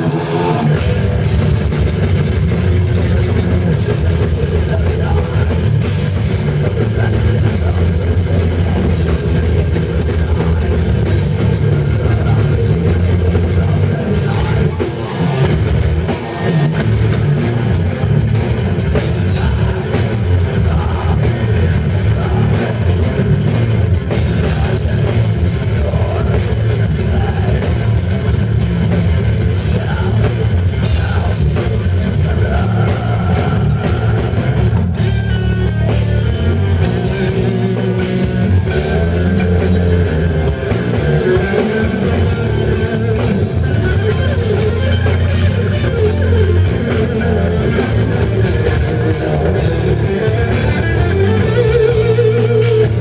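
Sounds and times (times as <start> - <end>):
bass guitar: 0.0 - 53.0
distorted electric guitars: 0.0 - 53.0
pounding drum kit: 0.0 - 53.0.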